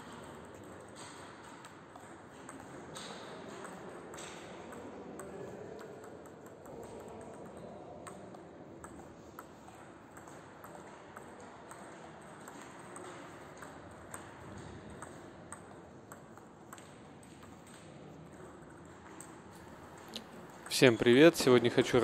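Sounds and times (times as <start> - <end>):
ping pong ball bouncing on table: 0.0 - 20.8
ping pong ball hitting rackets: 0.0 - 22.0.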